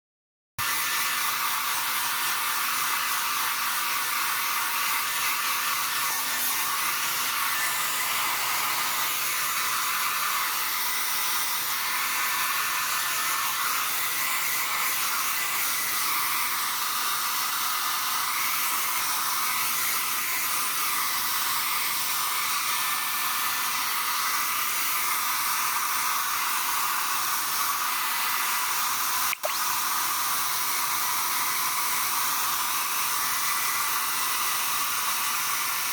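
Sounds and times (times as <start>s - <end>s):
electric air blower running: 0.6s - 35.9s.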